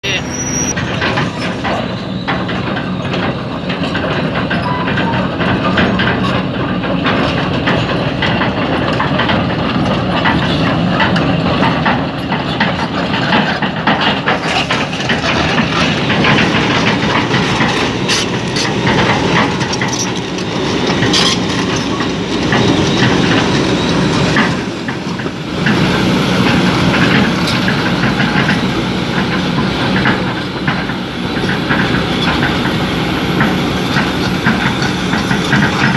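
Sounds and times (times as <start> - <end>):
diesel engine running: 0.0 - 35.9
clattering knocks and rattles: 0.8 - 35.9.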